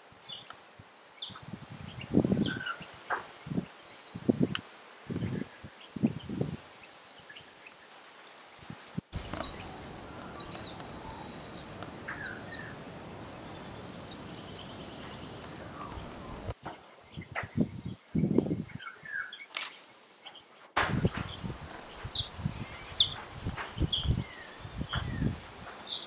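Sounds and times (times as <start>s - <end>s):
outdoor background hiss: 0.0s - 26.0s
small birds chirping: 0.2s - 4.5s, 5.1s - 8.5s, 9.1s - 26.0s.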